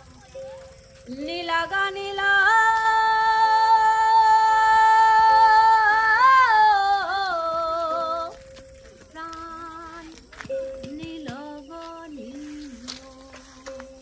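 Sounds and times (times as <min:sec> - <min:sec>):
faint steady tone: 0:00.0 - 0:14.0.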